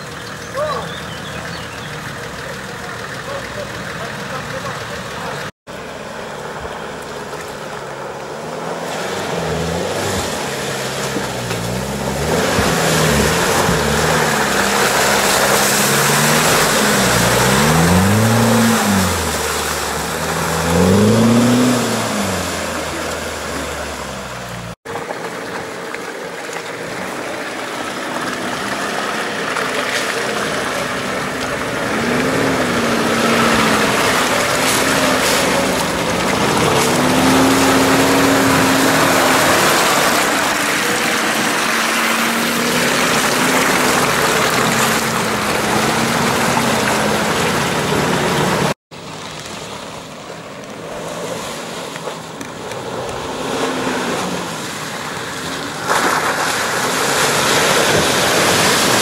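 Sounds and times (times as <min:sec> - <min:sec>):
off-road engines revving: 0:00.0 - 0:49.8, 0:50.6 - 0:59.0.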